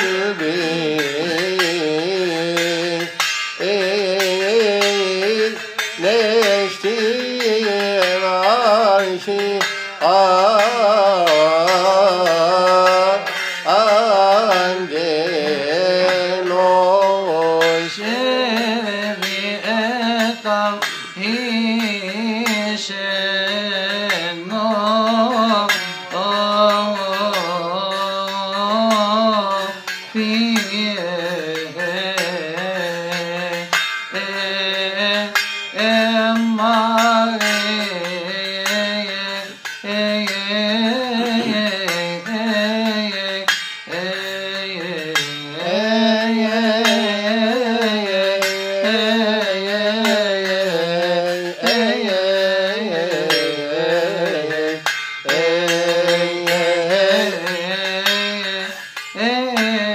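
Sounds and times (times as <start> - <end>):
small hand cymbals striking: 0.0 - 59.9.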